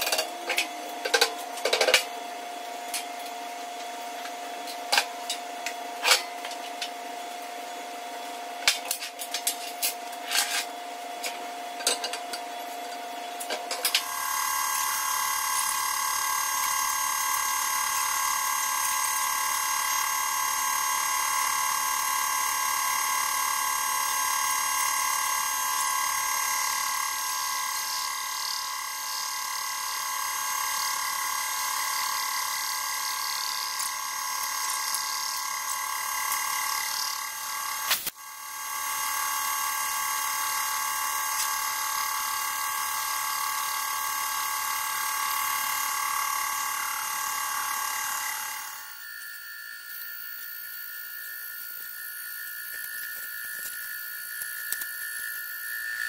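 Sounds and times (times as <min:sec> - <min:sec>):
boring machine whining: 0:00.0 - 0:56.0.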